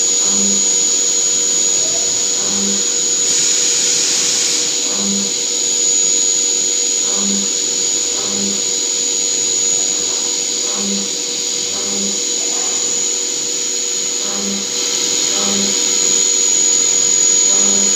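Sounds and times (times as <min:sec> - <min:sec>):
cnc machine whine: 0:00.0 - 0:17.9.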